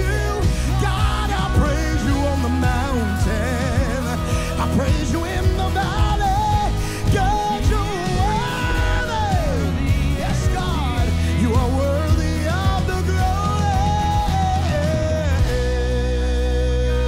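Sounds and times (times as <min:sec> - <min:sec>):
singer holding long notes: 0:00.0 - 0:17.0
worship band playing: 0:00.0 - 0:17.0.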